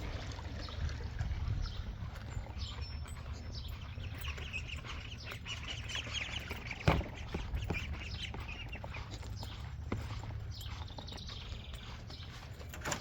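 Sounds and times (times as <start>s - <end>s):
chicks peeping: 0.6s - 13.0s.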